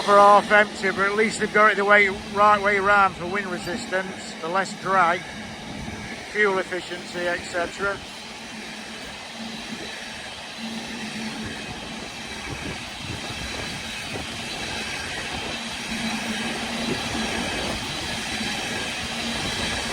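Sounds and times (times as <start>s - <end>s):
freight train wheels on rail: 0.0s - 19.9s.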